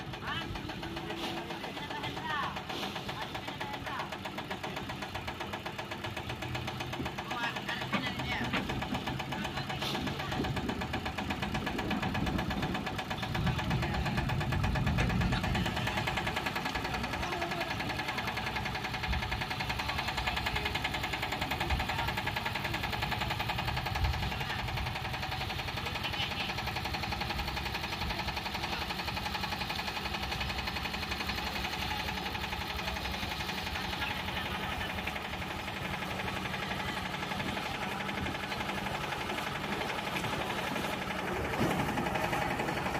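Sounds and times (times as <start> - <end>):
diesel engine knocking: 0.0 - 42.9.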